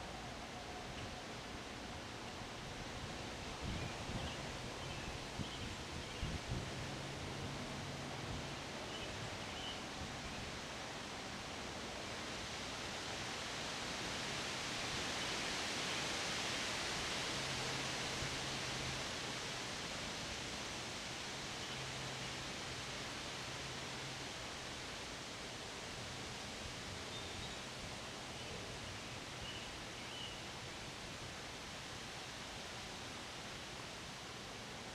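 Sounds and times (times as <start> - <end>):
wind rustling leafy trees: 0.0 - 34.9.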